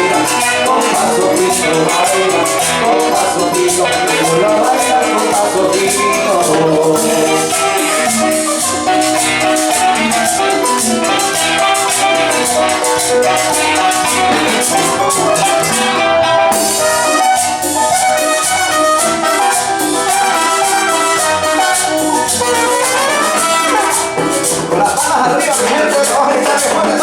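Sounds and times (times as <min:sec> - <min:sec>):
dance orchestra playing: 0:00.0 - 0:26.7
quick percussion beat: 0:00.0 - 0:27.0.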